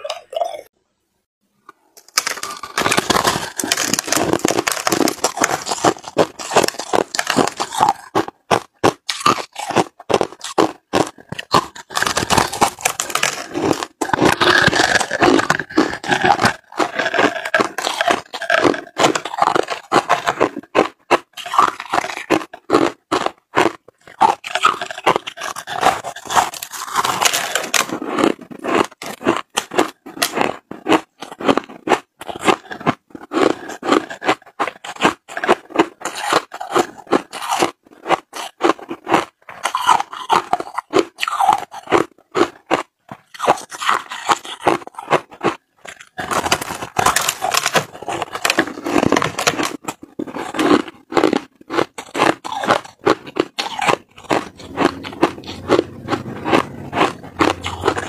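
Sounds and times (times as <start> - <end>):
crushed ice being chewed: 2.0 - 58.0.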